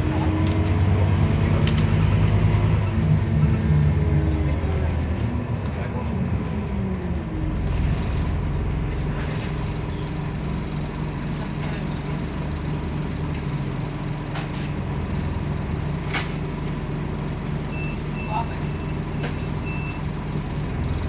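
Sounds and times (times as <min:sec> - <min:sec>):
bus diesel engine: 0:00.0 - 0:21.0.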